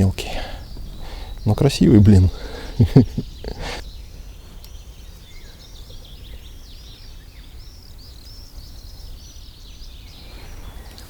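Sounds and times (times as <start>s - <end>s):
low outdoor rumble: 0.0s - 11.0s
small songbird chirping: 0.0s - 11.0s.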